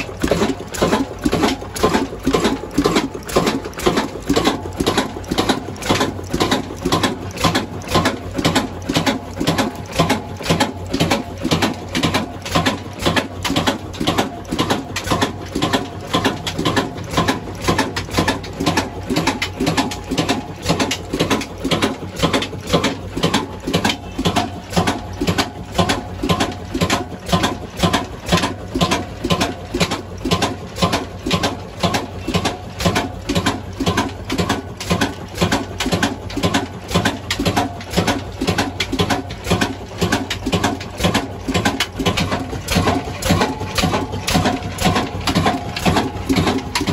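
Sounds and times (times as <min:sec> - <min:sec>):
stationary diesel engine running: 0:00.0 - 0:46.9.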